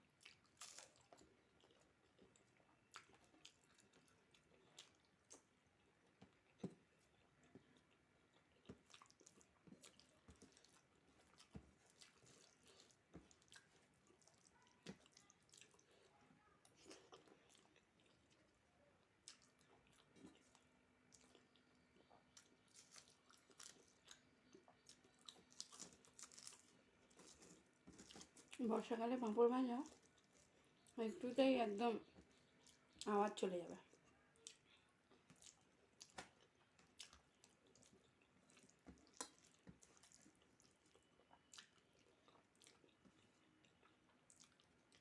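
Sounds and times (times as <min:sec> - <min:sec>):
person chewing food: 0:00.0 - 0:28.6, 0:29.8 - 0:31.0, 0:32.0 - 0:33.1, 0:33.9 - 0:45.0.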